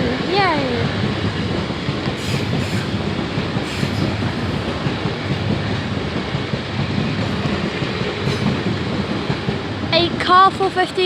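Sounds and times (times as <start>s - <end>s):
train wheels rumbling on rail: 0.0s - 11.0s
wheels clicking over rail joints: 0.0s - 11.0s.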